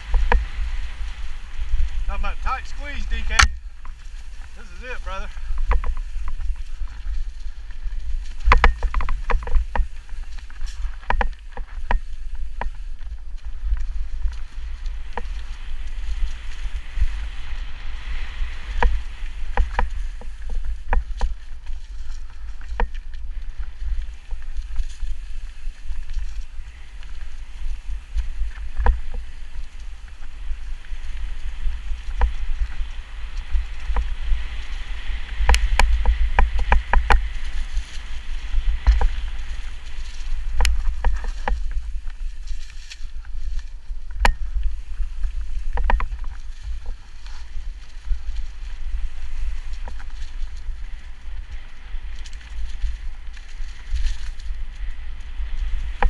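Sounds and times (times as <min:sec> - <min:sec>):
bike rattling and knocking: 0:00.0 - 0:56.0
tyres rolling over leaves and roots: 0:00.0 - 0:56.0
wind rumble on microphone: 0:00.0 - 0:56.0.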